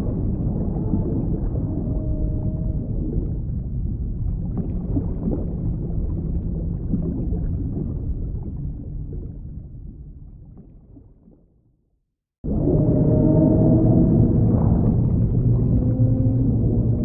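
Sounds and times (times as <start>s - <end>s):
muffled underwater rumble: 0.0s - 11.8s, 12.4s - 17.0s.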